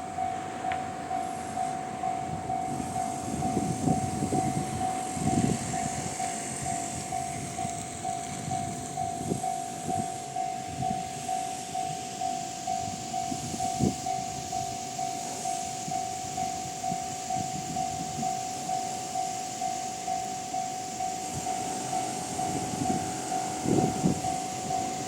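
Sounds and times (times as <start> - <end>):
level crossing alarm ringing: 0.0 - 25.0
train rumbling: 0.0 - 25.0.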